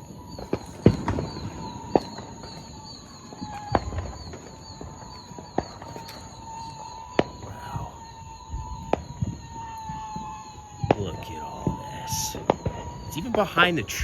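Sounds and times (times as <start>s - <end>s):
fireworks bangs: 0.0s - 14.0s
faint firework pops: 0.1s - 13.5s.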